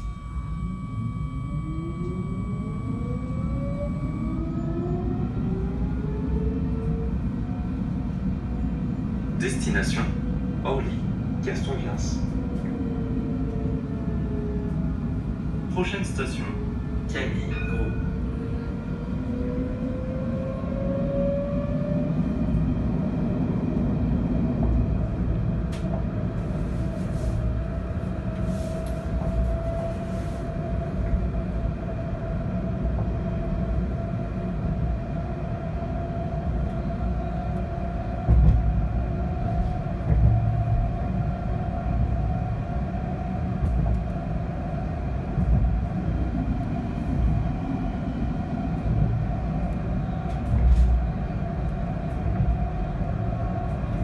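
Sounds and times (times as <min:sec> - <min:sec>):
tram motor whine: 0:00.0 - 0:15.8, 0:16.4 - 0:54.0.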